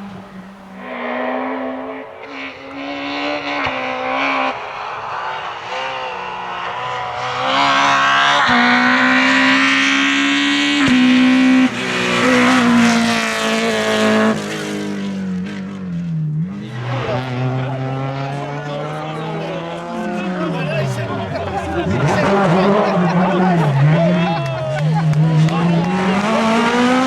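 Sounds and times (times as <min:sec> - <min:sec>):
rally car engine at high revs: 0:00.0 - 0:27.0.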